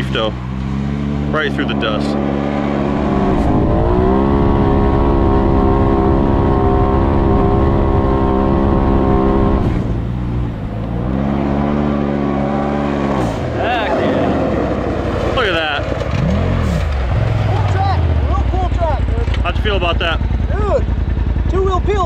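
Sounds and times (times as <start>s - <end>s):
engine revving hard: 0.0s - 14.8s, 15.4s - 18.5s.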